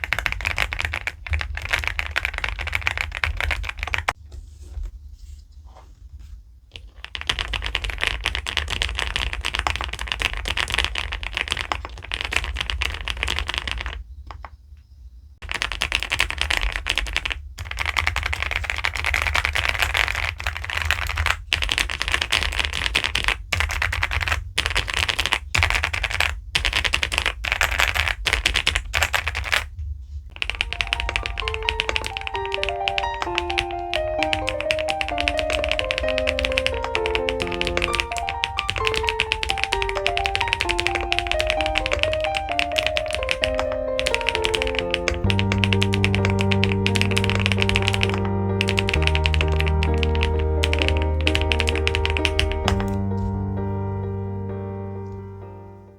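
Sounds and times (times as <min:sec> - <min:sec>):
fast typing on mechanical keyboard: 0:00.0 - 0:04.2, 0:06.7 - 0:14.0, 0:15.4 - 0:29.7, 0:30.3 - 0:53.4.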